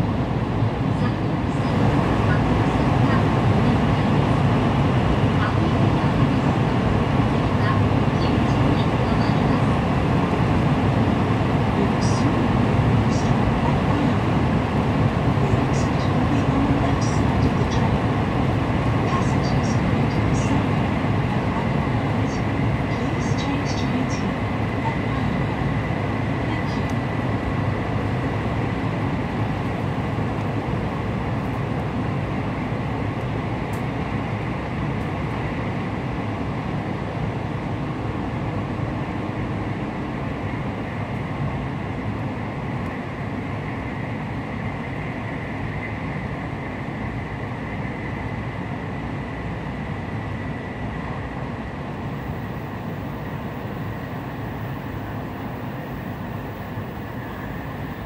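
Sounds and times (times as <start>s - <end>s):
train cabin rumble and rush: 0.0s - 58.0s.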